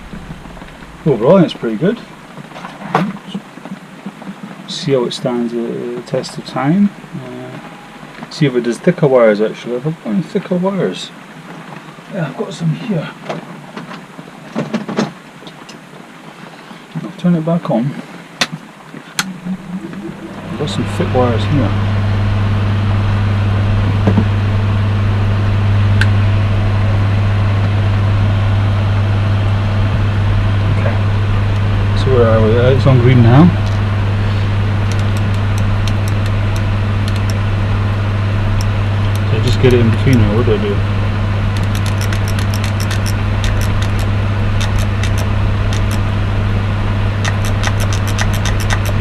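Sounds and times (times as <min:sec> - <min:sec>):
electrical mains hum: 0:00.0 - 0:14.5, 0:15.2 - 0:49.0.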